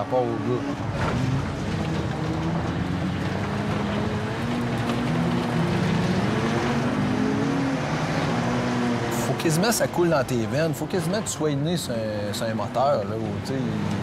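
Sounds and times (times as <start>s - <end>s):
car engine revving: 0.0s - 11.6s
wind and tyre noise: 0.0s - 14.0s.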